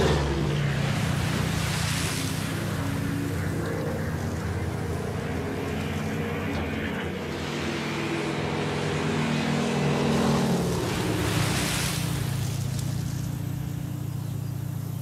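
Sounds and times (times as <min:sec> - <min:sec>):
rush of noise: 0:00.0 - 0:14.2
propeller plane engine droning: 0:00.0 - 0:15.0.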